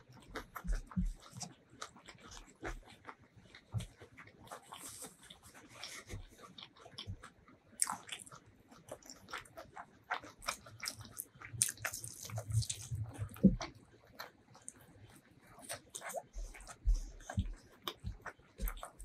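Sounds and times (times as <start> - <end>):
squishing of rice and meat: 0.0 - 19.0
wet chewing and lip smacks: 0.0 - 19.0.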